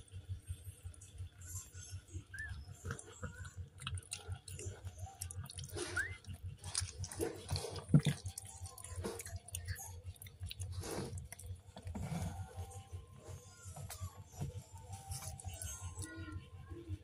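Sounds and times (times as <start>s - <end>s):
cat chewing and licking: 2.6s - 16.9s.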